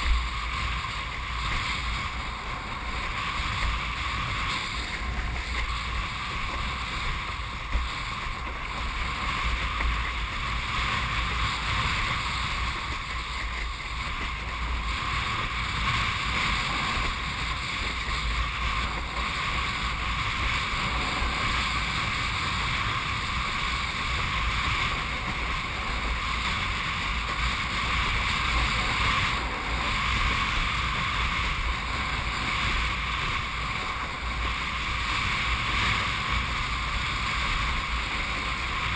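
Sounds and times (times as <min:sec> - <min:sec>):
rush of wind and water: 0:00.0 - 0:38.9.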